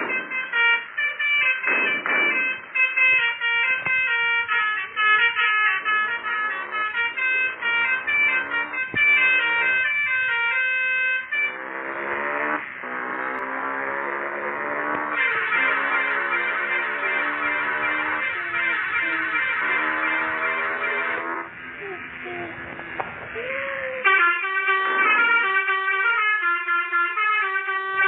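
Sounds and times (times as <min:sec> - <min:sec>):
musical motorcycle horn tune: 0:00.0 - 0:21.6, 0:24.0 - 0:28.0.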